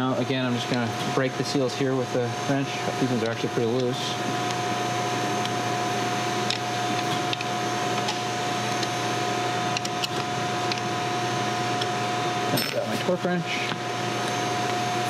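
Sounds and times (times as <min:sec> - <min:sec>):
mechanical hum with high tone: 0:00.0 - 0:15.0.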